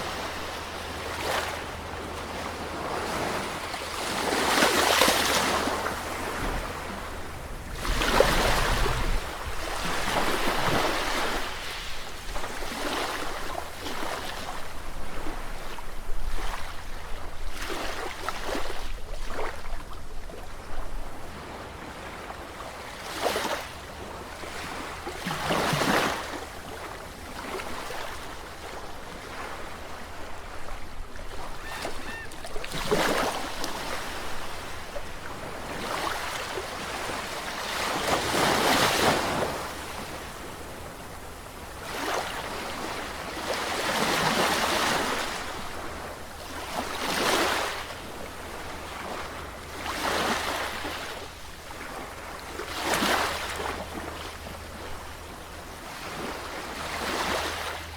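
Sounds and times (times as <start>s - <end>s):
waves breaking: 0.0s - 57.9s.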